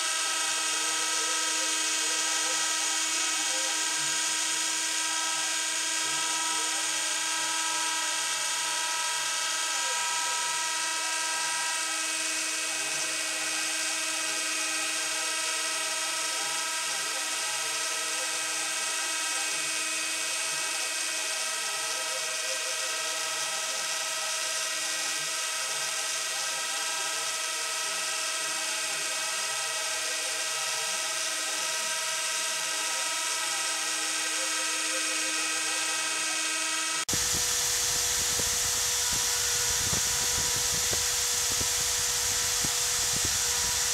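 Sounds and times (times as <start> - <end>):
router cutting noise: 0.0 - 43.9
router motors whining: 0.0 - 43.9.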